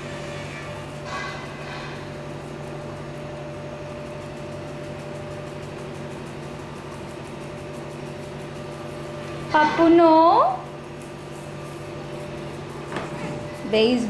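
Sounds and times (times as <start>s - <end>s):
appliance humming: 0.0s - 14.0s.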